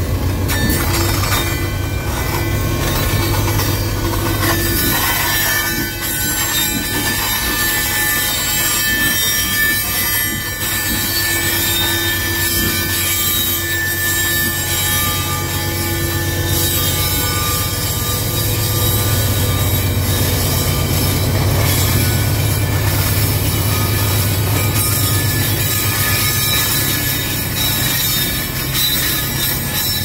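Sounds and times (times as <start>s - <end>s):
freight wagon wheels squealing on rail: 0.0s - 30.0s.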